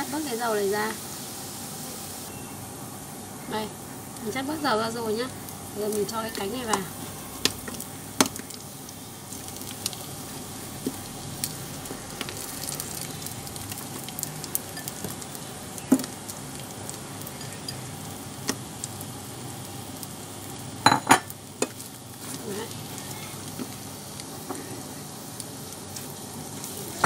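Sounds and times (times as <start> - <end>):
chicken wings sizzling in oil: 0.0 - 27.0.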